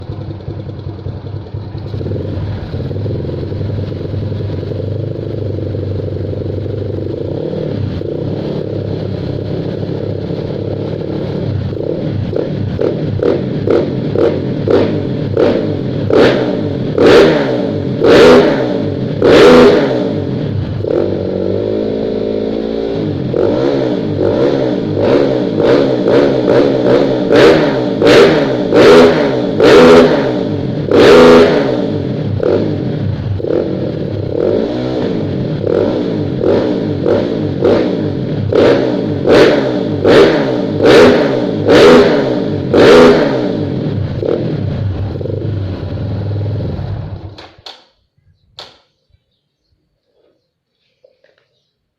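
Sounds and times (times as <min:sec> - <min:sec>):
motorcycle engine revving: 0:00.0 - 0:47.6.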